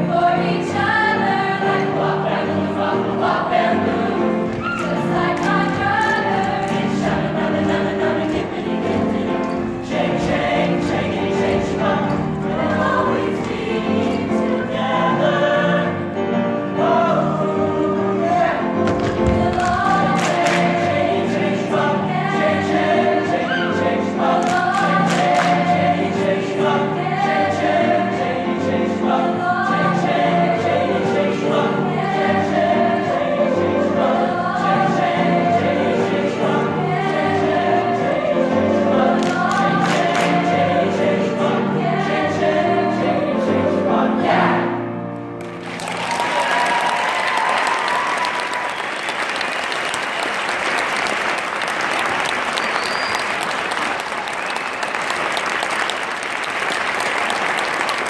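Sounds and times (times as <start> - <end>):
choir singing in harmony: 0.0 - 49.2.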